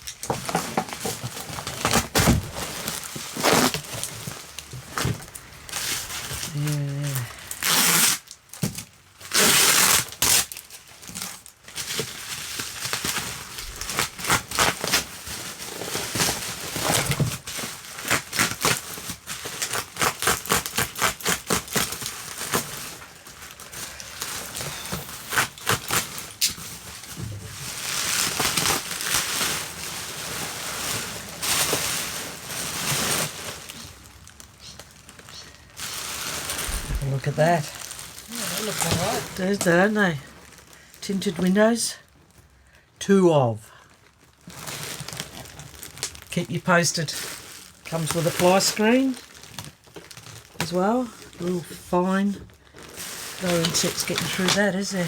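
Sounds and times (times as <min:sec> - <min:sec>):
packaging crinkling and rustling: 0:00.0 - 0:42.6, 0:43.8 - 0:55.0.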